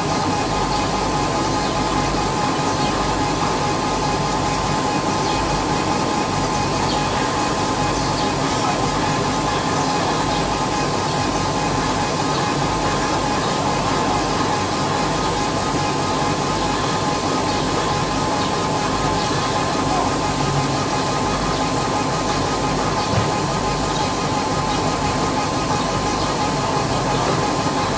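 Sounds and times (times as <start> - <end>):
laser engraver running: 0.0 - 27.9.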